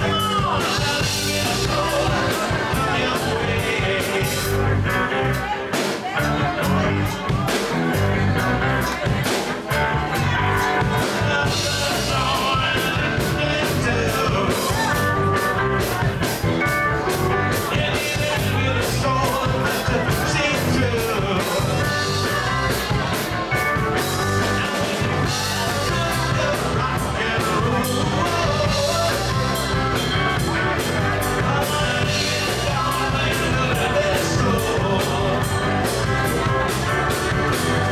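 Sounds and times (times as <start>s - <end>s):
drum kit beat: 0.0s - 37.9s
electric guitars: 0.0s - 37.9s.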